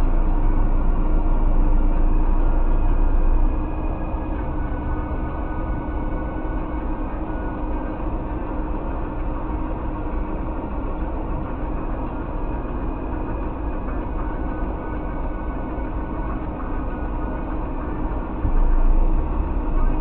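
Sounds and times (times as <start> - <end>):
car engine running inside cabin: 0.0 - 20.0.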